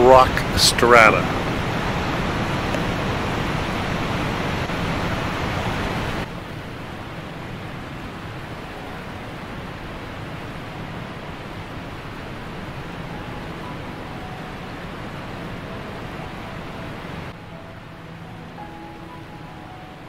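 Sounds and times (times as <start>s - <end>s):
waterfall rushing into pool: 0.0s - 20.0s.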